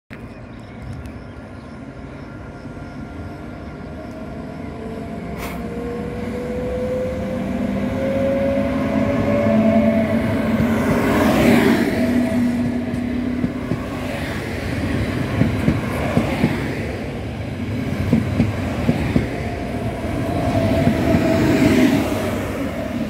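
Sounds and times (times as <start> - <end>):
train rumble: 0.7 - 23.0
train wheel noise: 2.9 - 23.0.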